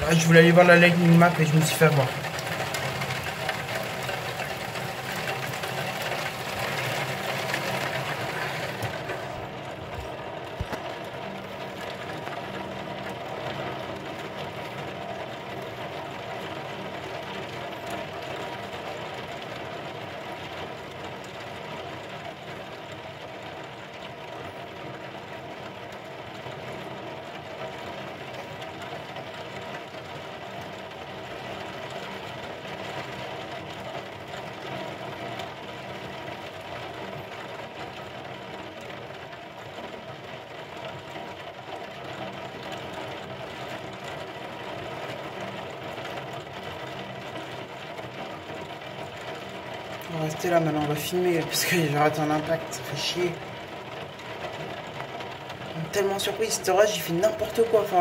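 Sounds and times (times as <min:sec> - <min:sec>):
low mechanical hum: 0:00.0 - 0:58.0
rain on window glass: 0:00.0 - 0:58.0.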